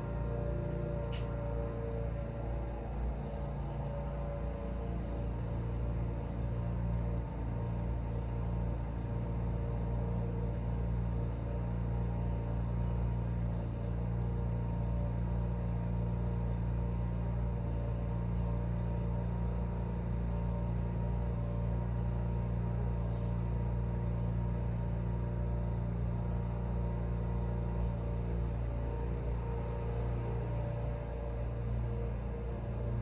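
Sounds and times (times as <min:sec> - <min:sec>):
lawn mower engine droning: 0:00.0 - 0:33.0.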